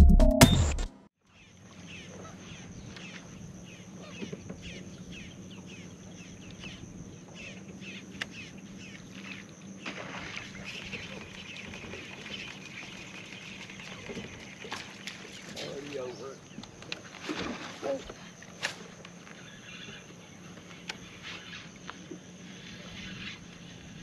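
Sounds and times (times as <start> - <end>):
birds chirping: 1.2 - 17.2, 17.9 - 24.0.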